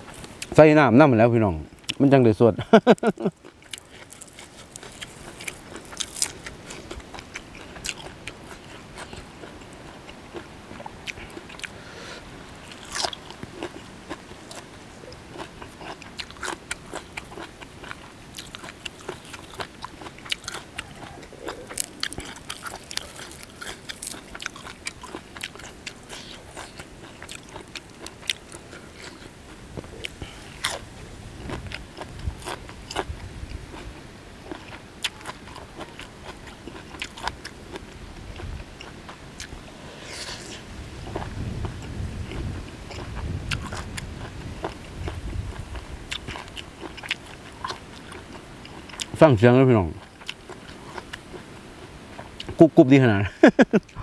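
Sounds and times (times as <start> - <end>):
crunchy chewing close up: 1.7 - 52.7.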